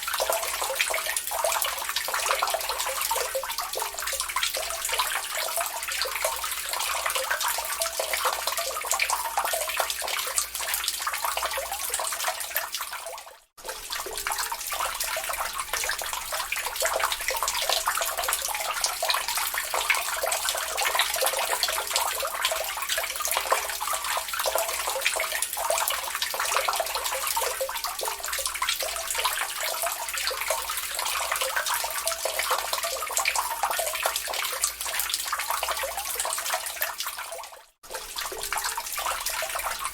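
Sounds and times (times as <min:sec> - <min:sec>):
water dripping into a lake: 0:00.0 - 0:39.9.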